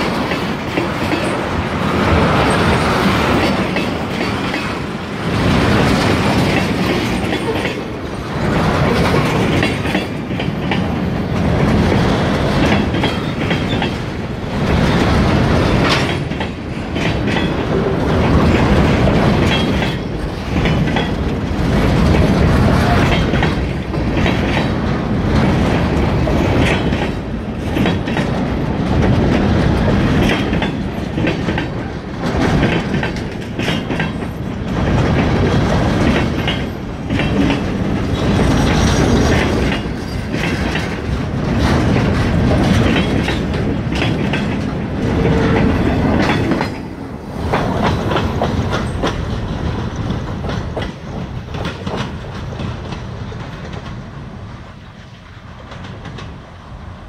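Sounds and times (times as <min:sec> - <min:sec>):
heavy train rumble: 0:00.0 - 0:57.0
train wheels clickety-clack: 0:00.0 - 0:57.0.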